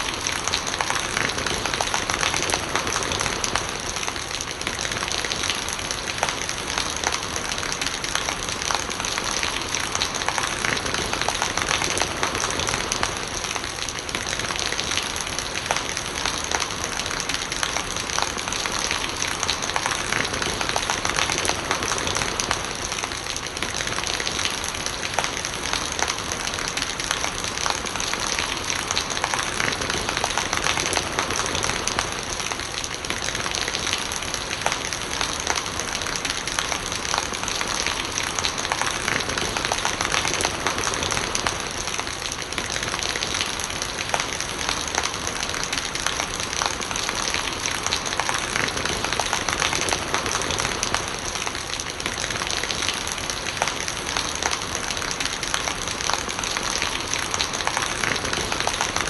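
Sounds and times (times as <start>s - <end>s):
raindrops striking surfaces: 0.0s - 59.0s
rainwater gurgling: 0.0s - 59.0s
steady rain: 0.0s - 59.0s.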